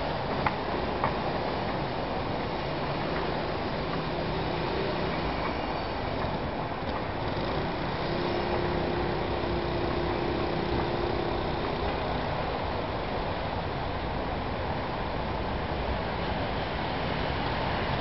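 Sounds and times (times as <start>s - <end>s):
road traffic noise: 0.0s - 18.0s
train crossing a viaduct: 0.0s - 18.0s.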